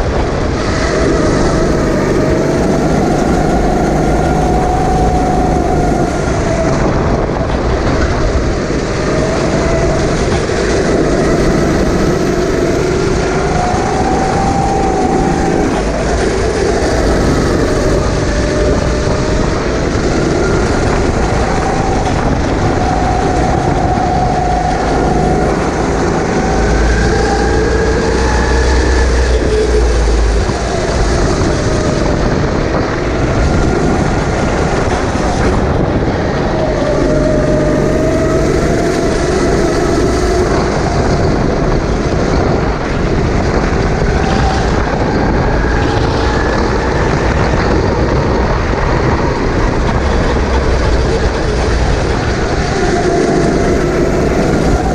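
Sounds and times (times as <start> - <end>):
steady noise: 0.0 - 54.9
kart engine running flat out: 0.1 - 54.9.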